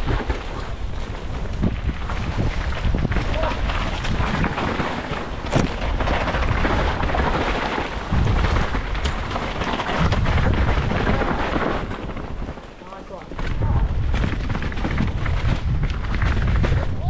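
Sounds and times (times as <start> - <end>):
tyres over dirt and stones: 0.0 - 17.0
wind buffeting microphone: 0.0 - 17.0.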